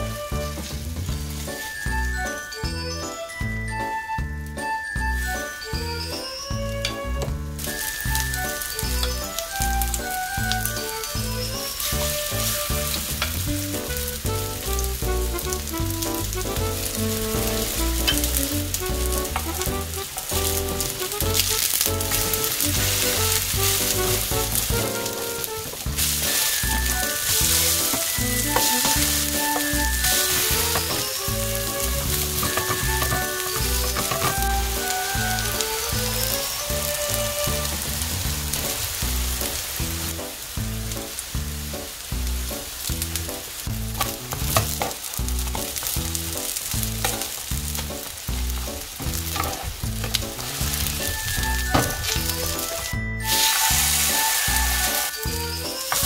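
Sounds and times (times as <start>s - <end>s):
pancakes sizzling in oil: 0.0s - 3.5s, 5.4s - 56.0s
background music with a beat: 0.0s - 56.0s.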